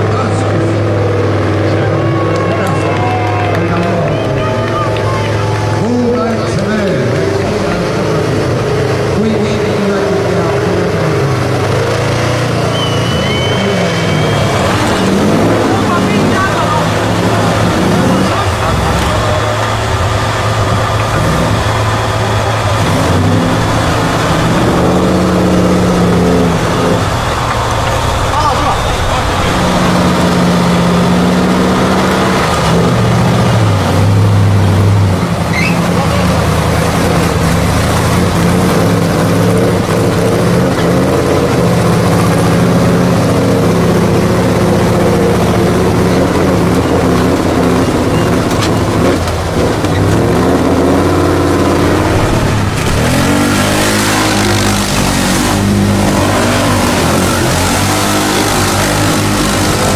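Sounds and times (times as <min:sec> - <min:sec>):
quad bike engine revving: 0:00.0 - 0:59.9
truck engines revving hard: 0:00.0 - 0:59.9.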